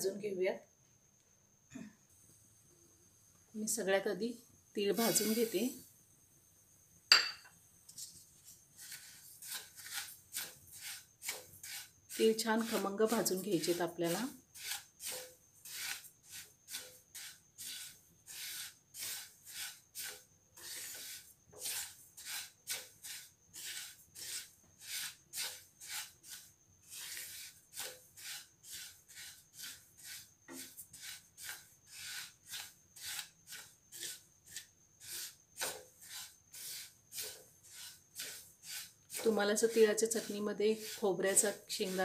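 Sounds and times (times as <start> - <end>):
seeds rustling in pan: 4.8 - 5.8, 7.9 - 42.0
spatula scraping pan: 5.0 - 5.8, 8.7 - 42.0.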